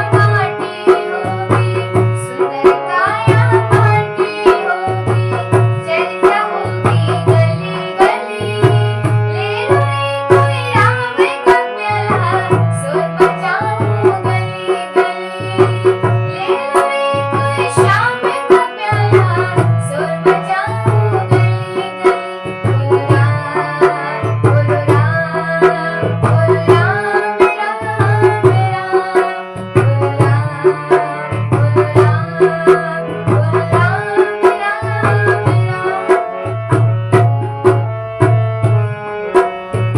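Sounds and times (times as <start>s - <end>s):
devotional music with hand drum: 0.0s - 39.9s.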